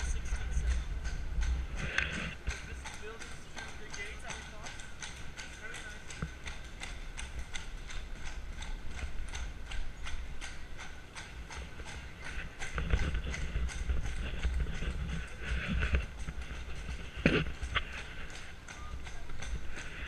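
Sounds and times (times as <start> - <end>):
horse hooves clip-clopping on stone: 0.0 - 20.0.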